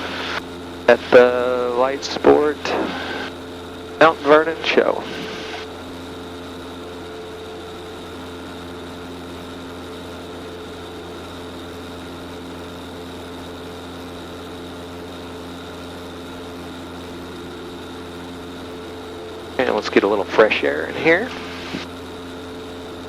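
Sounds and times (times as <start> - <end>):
aircraft piston engine droning: 0.0 - 23.0.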